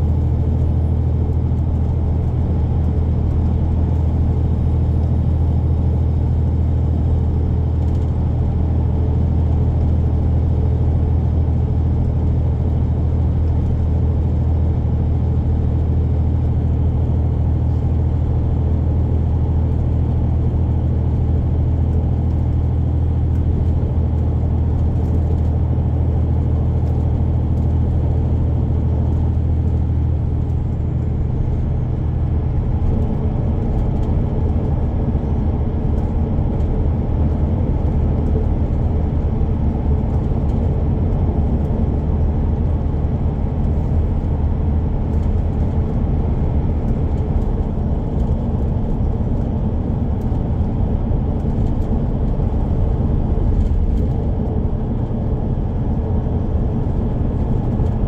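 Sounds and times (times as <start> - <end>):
deep engine drone: 0.0 - 58.0
road and tyre noise: 0.0 - 58.0.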